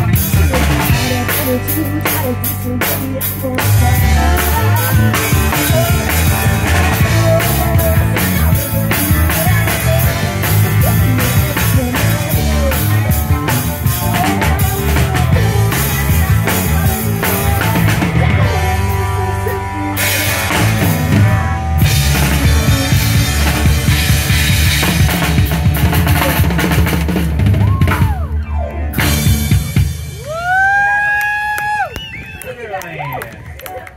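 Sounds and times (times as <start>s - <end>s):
drum kit: 0.0s - 31.9s
electric guitars: 0.0s - 32.2s
bass guitar: 0.0s - 32.4s.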